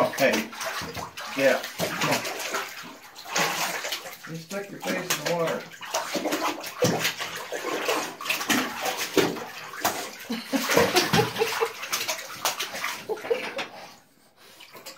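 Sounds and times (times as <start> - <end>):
bathwater sloshing and splashing: 0.0 - 14.9.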